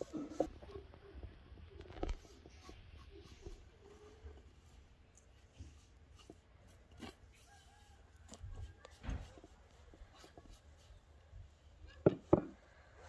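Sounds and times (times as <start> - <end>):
hand scraping wooden bowl: 0.0 - 12.6.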